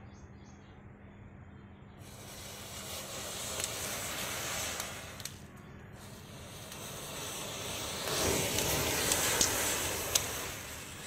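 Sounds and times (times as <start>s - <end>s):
matches igniting hiss: 2.0s - 11.0s
sharp crackles: 2.0s - 11.0s.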